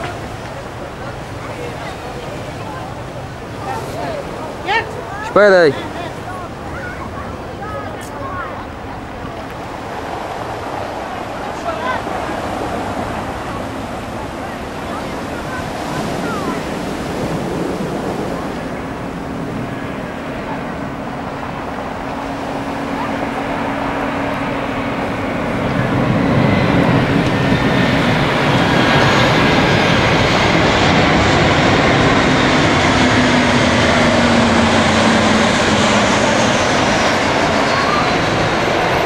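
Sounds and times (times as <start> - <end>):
jet airliner flying low: 0.0 - 39.0.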